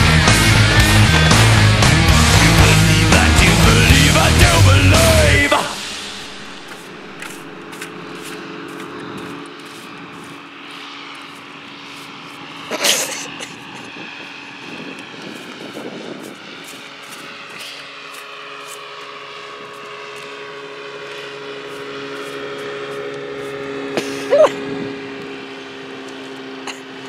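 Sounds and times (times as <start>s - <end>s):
engine droning: 0.0s - 27.0s.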